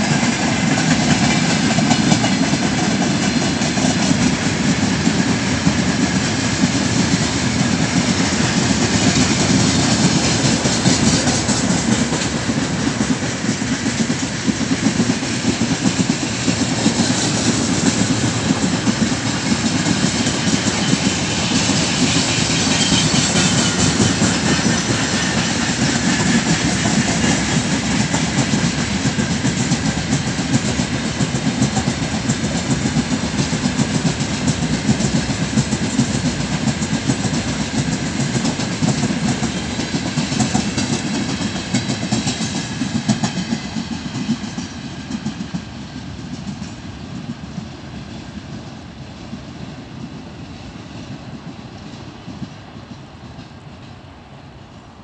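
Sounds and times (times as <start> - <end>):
steel wheels clattering over rail joints: 0.0 - 48.5
freight train rumbling past: 0.0 - 55.0.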